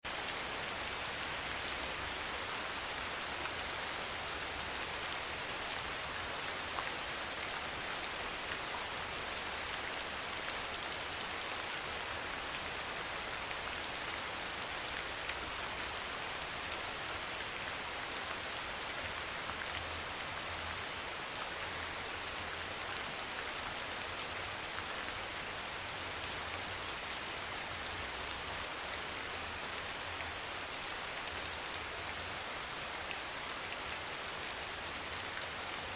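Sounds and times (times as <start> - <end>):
soft rain falling: 0.0 - 35.9.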